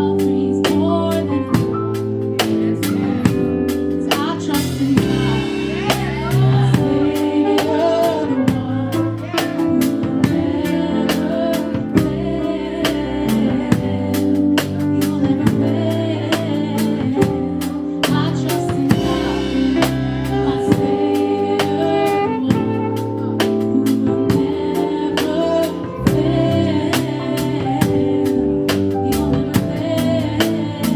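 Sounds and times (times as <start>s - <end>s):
bass: 0.0s - 30.9s
drum kit beat: 0.0s - 30.9s
keyboard chords: 0.0s - 30.9s.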